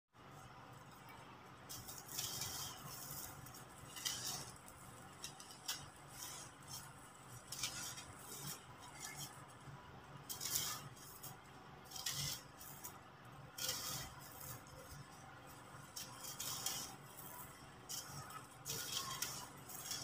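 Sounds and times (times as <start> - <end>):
sand grains trickling: 1.6 - 13.0, 13.6 - 20.0.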